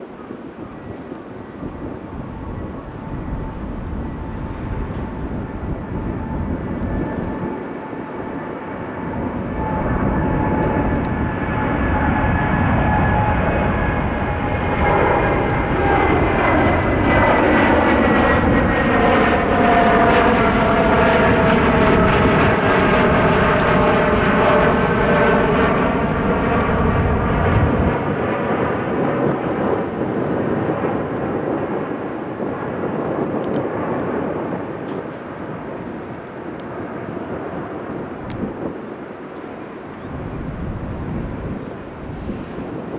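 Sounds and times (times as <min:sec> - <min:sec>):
jet airliner passing: 0:00.0 - 0:42.9.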